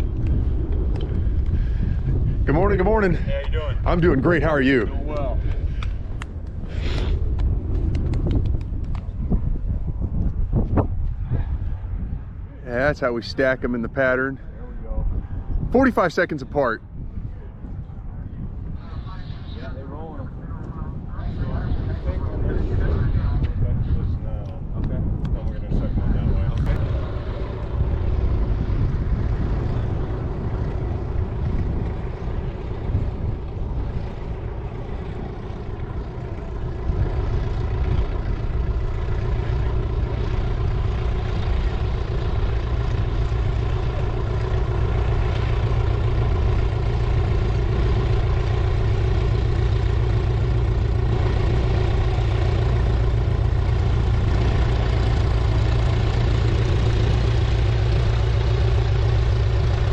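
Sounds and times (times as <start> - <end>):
light aircraft piston engine: 0.0 - 59.9.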